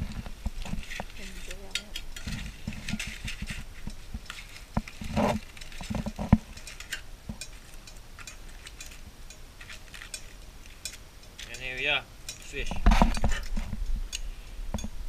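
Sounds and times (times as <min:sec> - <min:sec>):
foil crinkling: 0:00.0 - 0:09.0, 0:09.6 - 0:13.6
tongs clicking: 0:00.9 - 0:14.9.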